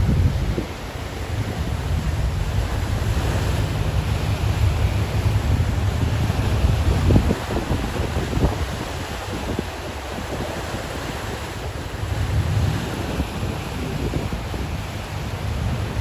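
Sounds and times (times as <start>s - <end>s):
ocean waves rushing: 0.0s - 16.0s
wind buffeting microphone: 0.0s - 16.0s.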